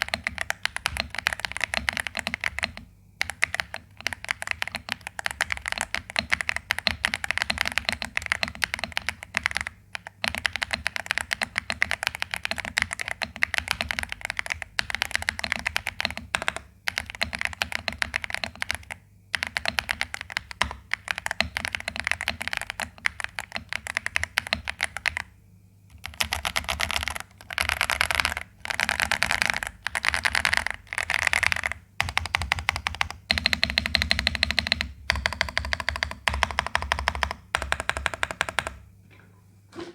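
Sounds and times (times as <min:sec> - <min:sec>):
mechanical keyboard typing: 0:00.0 - 0:25.3, 0:25.9 - 0:38.8.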